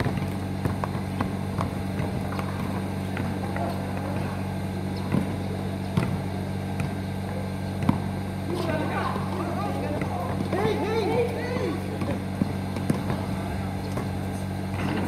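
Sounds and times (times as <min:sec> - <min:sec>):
basketball bouncing on asphalt: 0:00.0 - 0:15.0
low mechanical hum: 0:00.0 - 0:15.0.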